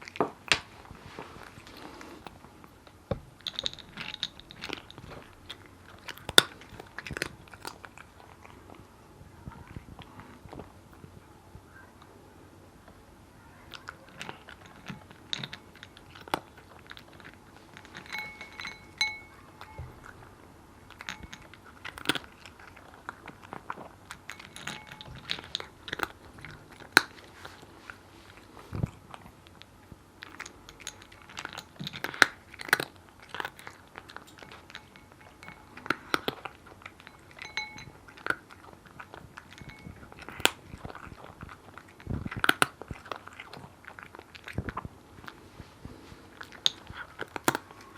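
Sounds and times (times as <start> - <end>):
cat crunching dry kibble: 0.0 - 11.2, 13.6 - 47.9.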